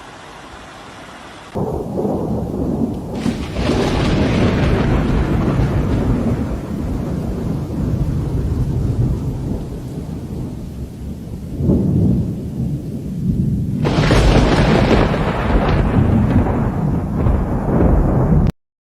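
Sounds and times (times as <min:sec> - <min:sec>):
rush of wind-driven rain: 0:00.0 - 0:18.5
wind and rain rumbling: 0:00.0 - 0:18.5.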